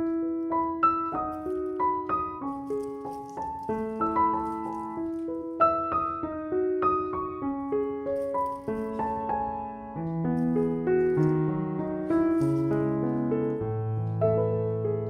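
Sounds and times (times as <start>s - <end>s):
soft solo piano melody: 0.0s - 15.0s.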